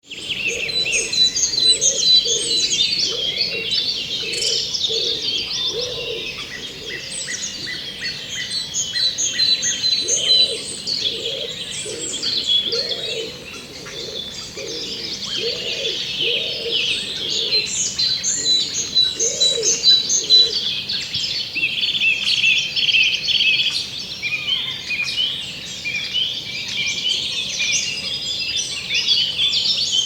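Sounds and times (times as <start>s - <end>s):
songbirds chirping and trilling: 0.0s - 30.0s
low arched bird calls: 0.1s - 30.0s.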